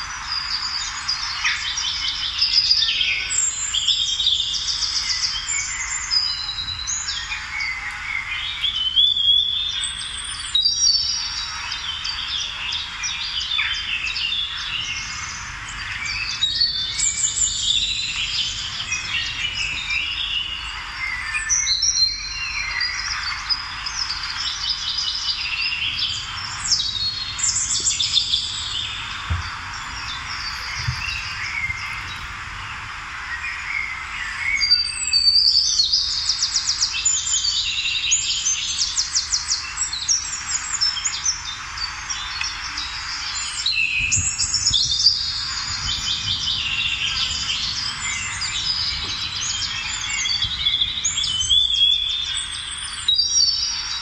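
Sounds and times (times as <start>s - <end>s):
small birds chirping and singing: 0.0s - 54.0s.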